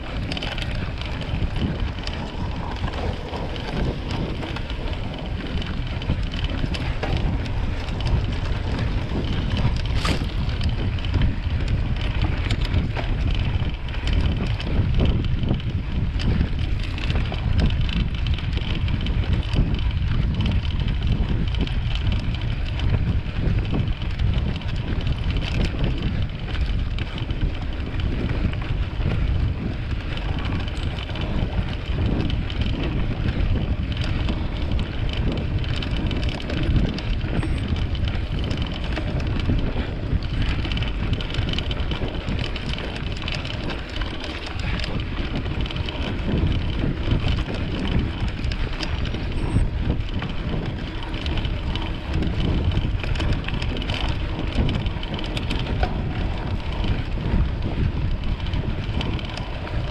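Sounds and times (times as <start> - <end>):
bike rattling: 0.0 - 59.9
bike tyre noise: 0.0 - 59.9
wind buffeting microphone: 0.0 - 59.9.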